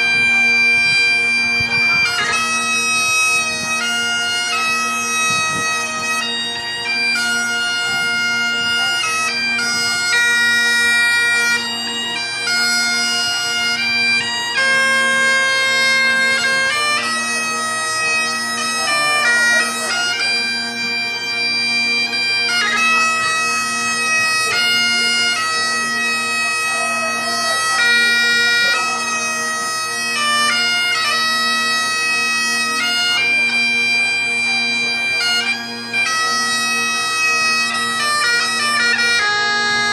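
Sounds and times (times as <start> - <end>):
bagpipe melody with drones: 0.0 - 39.9.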